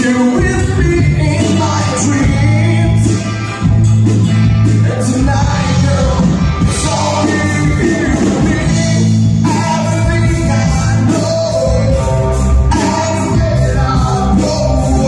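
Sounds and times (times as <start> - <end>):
man singing into microphone: 0.0 - 3.2, 4.8 - 15.0
drum kit steady beat: 0.0 - 15.0
electric bass: 0.0 - 15.0
electric guitar: 0.0 - 15.0.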